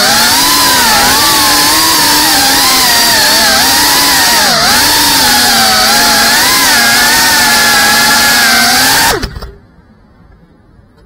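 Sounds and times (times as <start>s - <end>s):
drone motors buzzing: 0.0s - 9.5s
motors spinning down whine: 0.0s - 9.5s.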